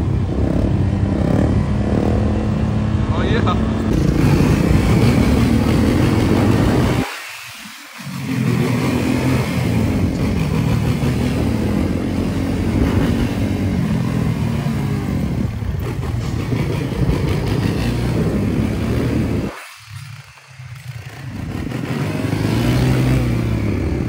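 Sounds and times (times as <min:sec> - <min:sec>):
quad engine revving: 0:00.0 - 0:24.0.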